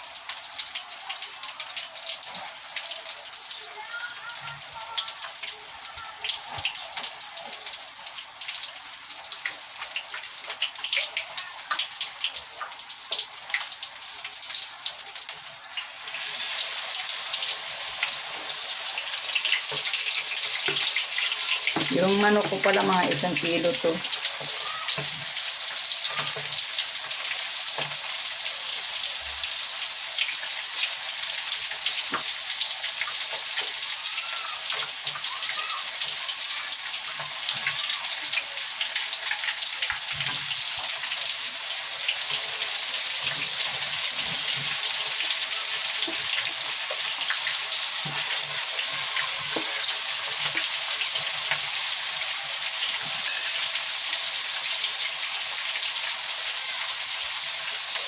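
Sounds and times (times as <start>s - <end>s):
food deep-frying in oil: 0.0s - 58.0s.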